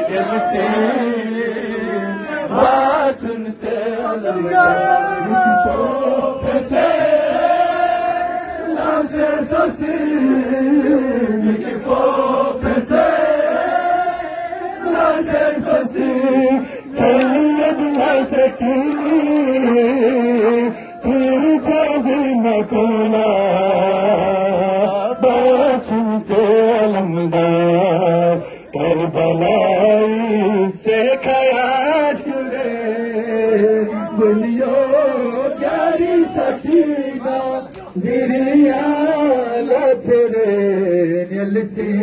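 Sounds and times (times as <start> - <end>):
men chanting a lament: 0.0 - 42.0.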